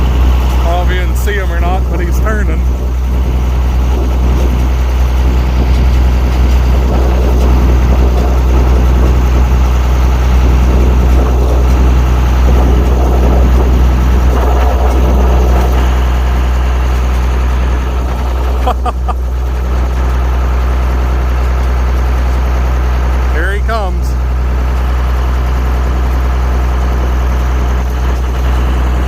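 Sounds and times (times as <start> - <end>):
combine harvester engine droning: 0.0 - 29.0.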